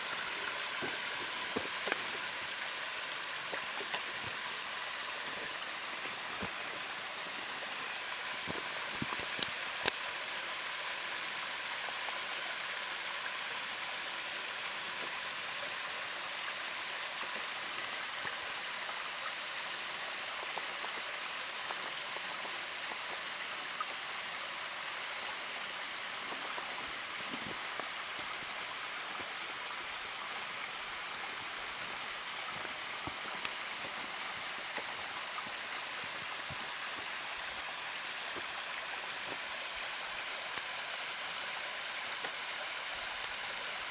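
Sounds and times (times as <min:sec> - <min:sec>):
water drips: 0:00.0 - 0:43.9
waterfall splashing down rock: 0:00.0 - 0:43.9.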